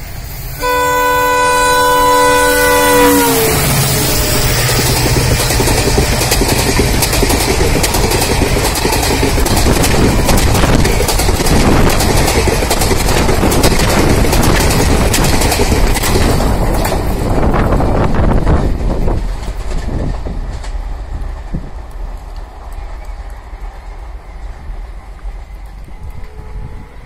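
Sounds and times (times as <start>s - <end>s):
train wheels rumbling and clicking: 0.0s - 27.0s.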